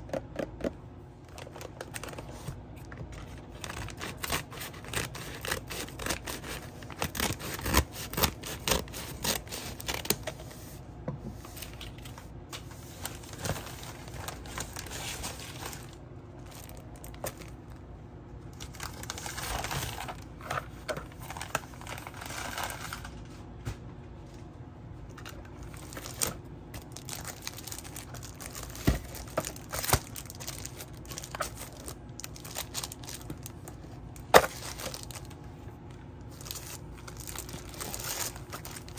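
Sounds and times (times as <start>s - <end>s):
plastic and paper rustling: 1.2s - 17.8s, 18.6s - 23.6s, 25.1s - 38.9s.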